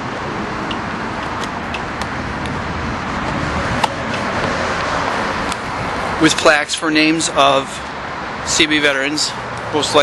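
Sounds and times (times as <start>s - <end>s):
rushing outdoor background noise: 0.0s - 10.0s.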